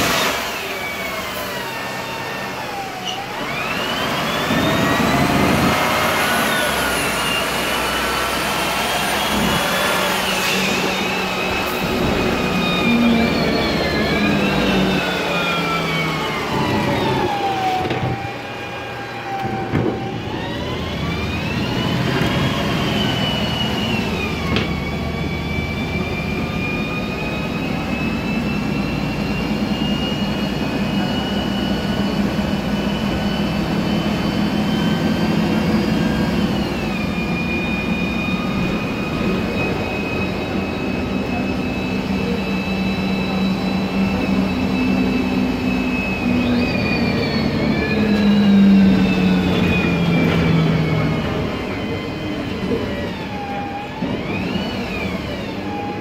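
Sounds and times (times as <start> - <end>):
bus engine hum: 0.0 - 56.0.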